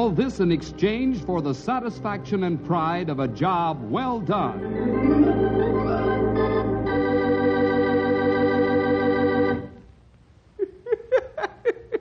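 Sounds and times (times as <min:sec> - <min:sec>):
organ chord with vibrato: 0:00.0 - 0:09.8.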